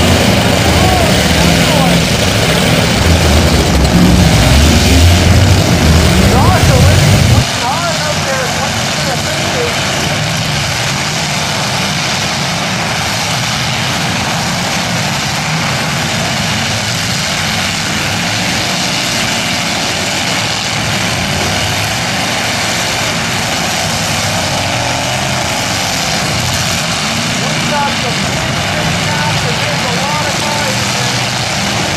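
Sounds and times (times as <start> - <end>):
many car engines revving: 0.0 - 31.9.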